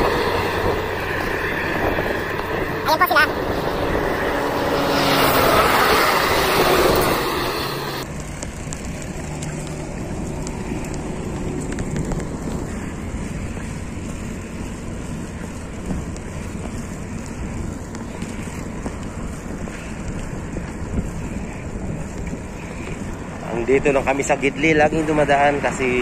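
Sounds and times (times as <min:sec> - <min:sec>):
road noise: 0:00.0 - 0:26.0
wind rushing over microphone: 0:00.0 - 0:26.0.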